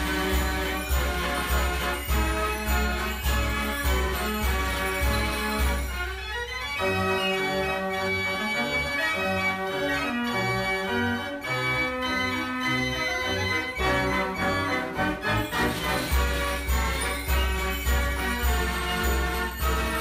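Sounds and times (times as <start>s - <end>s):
fair organ playing dance tune: 0.0s - 20.0s.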